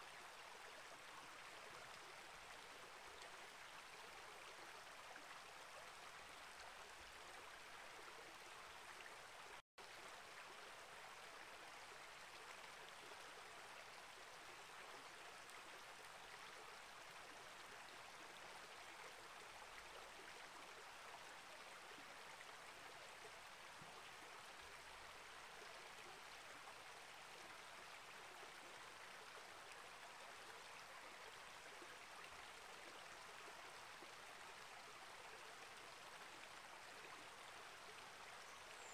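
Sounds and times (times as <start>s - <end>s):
creek flowing over rocks: 0.0s - 38.9s.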